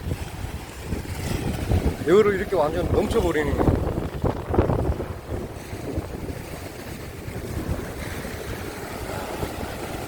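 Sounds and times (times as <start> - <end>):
waves washing over rocks: 0.0 - 10.0
wind buffeting microphone: 0.0 - 10.0.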